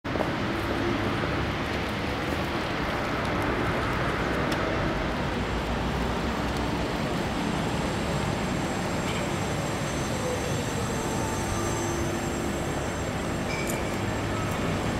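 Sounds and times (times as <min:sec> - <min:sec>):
city traffic noise: 0:00.0 - 0:14.9
tram rumbling on rails: 0:00.1 - 0:14.9.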